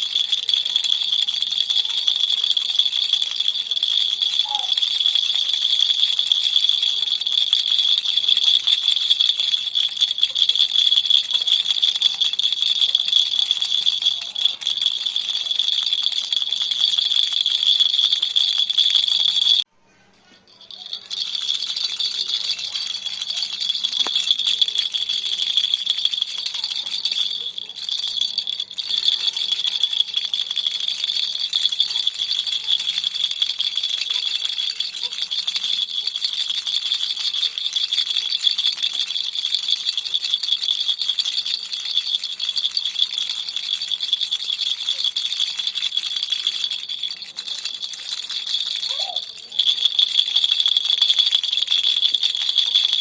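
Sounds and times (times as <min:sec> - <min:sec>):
baby toy rattle shaken: 0:00.0 - 0:53.0.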